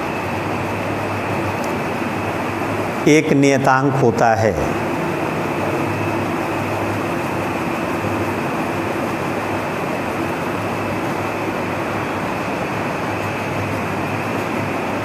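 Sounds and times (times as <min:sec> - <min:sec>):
low humming drone: 0:00.0 - 0:15.0.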